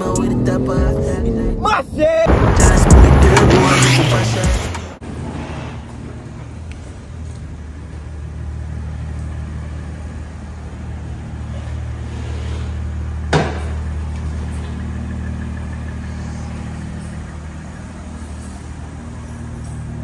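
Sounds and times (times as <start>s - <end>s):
car engine idling: 2.3s - 20.0s.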